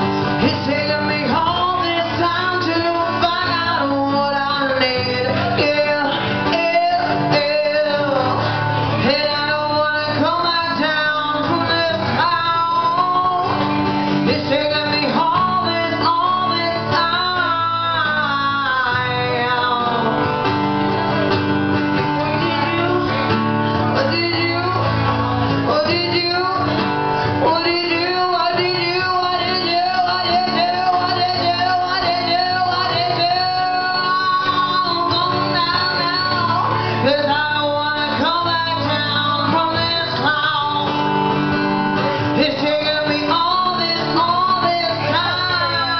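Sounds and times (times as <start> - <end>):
bass and guitars: 0.0 - 45.9.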